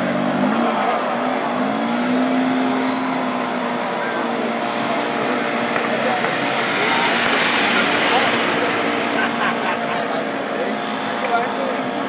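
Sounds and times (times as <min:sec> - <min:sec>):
car engine revving: 0:00.0 - 0:12.0
din of other engines: 0:00.0 - 0:12.0.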